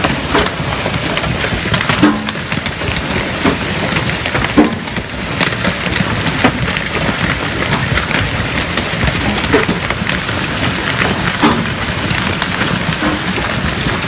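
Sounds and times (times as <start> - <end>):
hail clattering: 0.0 - 14.0
hailstones knocking hard surfaces: 0.0 - 14.0.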